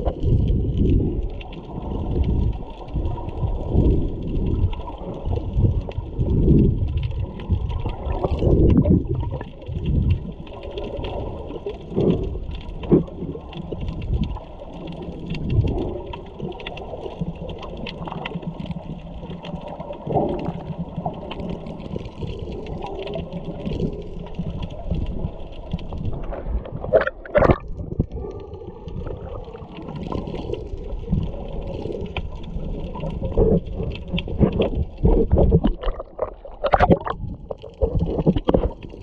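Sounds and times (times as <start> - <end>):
muffled underwater water rush: 0.0 - 39.0.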